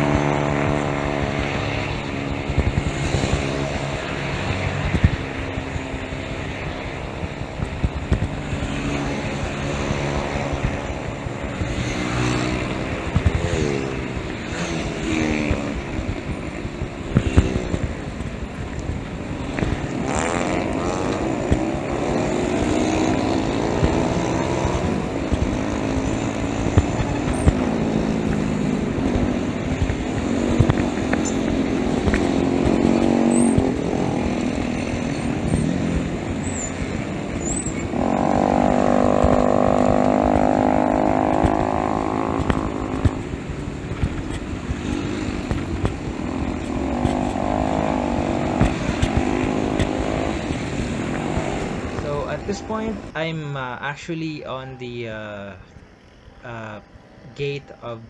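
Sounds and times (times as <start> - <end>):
small motorcycle engines revving: 0.0 - 53.2
road traffic: 0.0 - 58.0.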